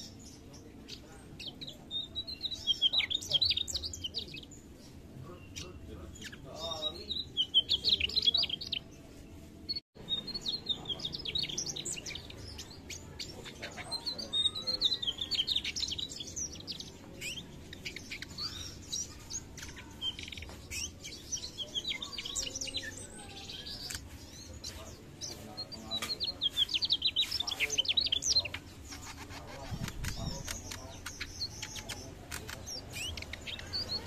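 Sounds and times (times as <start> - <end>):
flycatcher singing: 0.0 - 8.9, 9.7 - 34.0.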